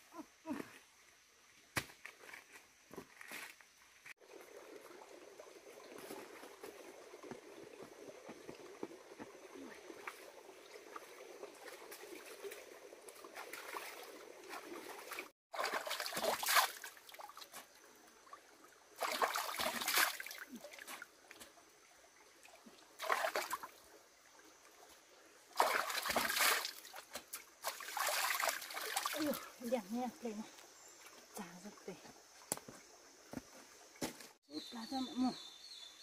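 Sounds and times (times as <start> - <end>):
water splashing and trickling: 4.1 - 35.2.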